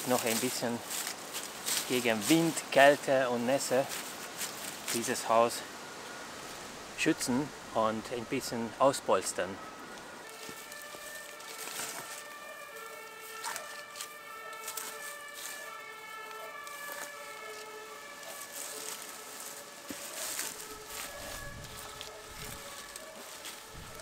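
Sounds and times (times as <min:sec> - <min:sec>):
branches rustling: 0:00.0 - 0:24.0
steady wavering whine: 0:00.0 - 0:24.0.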